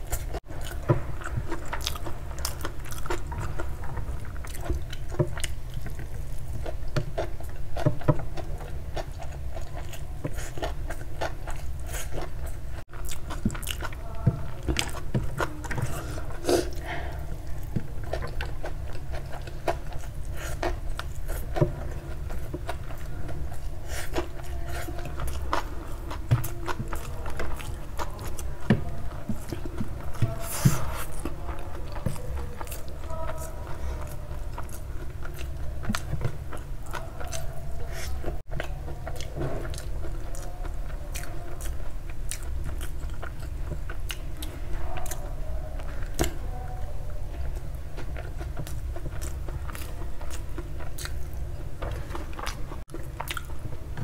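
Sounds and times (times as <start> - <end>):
chewing: 0.0 - 54.0
steady low hum: 0.0 - 54.0.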